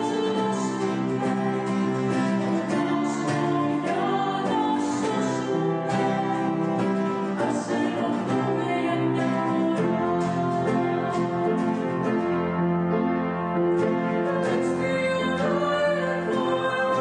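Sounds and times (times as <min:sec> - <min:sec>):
woman singing slow song: 0:00.0 - 0:11.8, 0:14.2 - 0:17.0
acoustic guitar: 0:00.0 - 0:17.0.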